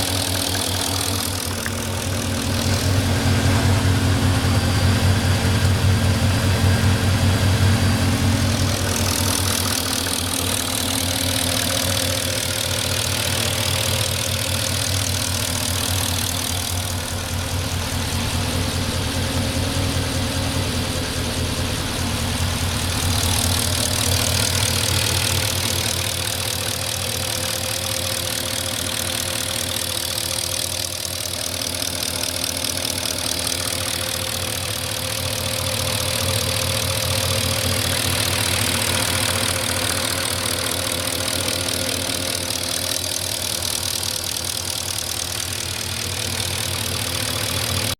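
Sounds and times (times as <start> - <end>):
car engine idling with ticking: 0.0 - 47.9
engine hiss: 0.0 - 47.9.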